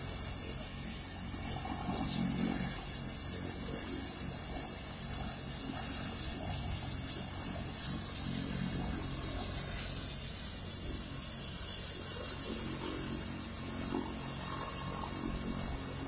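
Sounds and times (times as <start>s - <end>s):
helicopter turbine and rotor: 0.0s - 16.0s.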